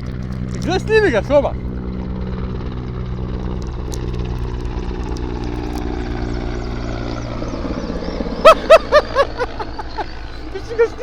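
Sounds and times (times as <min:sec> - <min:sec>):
helicopter rotor beating: 0:00.0 - 0:11.0
helicopter engine whine: 0:00.1 - 0:11.0.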